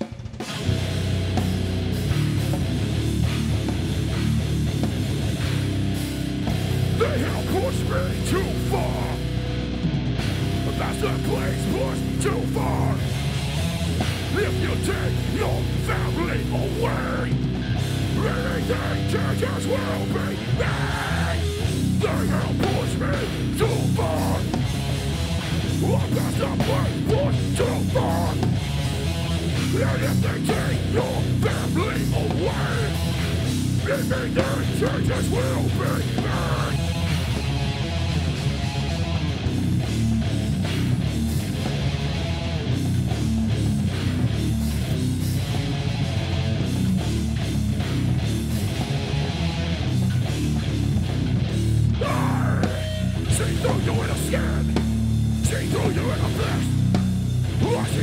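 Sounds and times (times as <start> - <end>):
drum kit with cymbal hits: 0.0 - 58.0
heavy metal band playing live: 0.0 - 58.0
bending guitar notes: 0.5 - 58.0.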